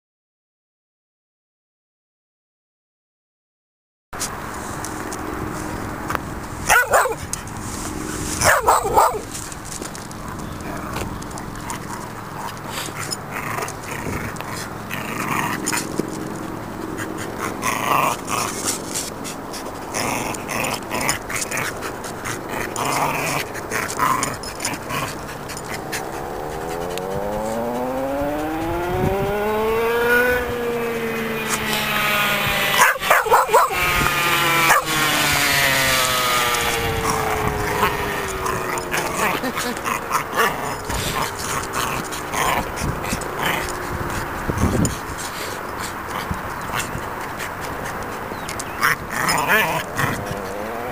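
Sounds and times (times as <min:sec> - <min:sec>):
dog barking and growling: 0:06.6 - 0:50.9.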